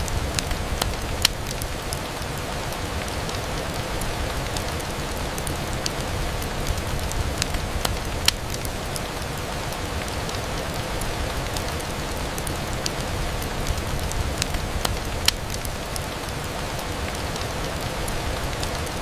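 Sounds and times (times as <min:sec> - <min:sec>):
rain on a window: 0:00.0 - 0:19.0.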